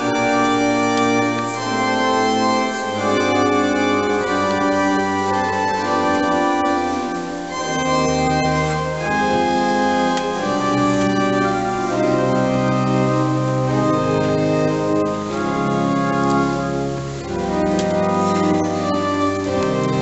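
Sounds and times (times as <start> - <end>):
pipe organ playing sustained chords: 0.0 - 20.0.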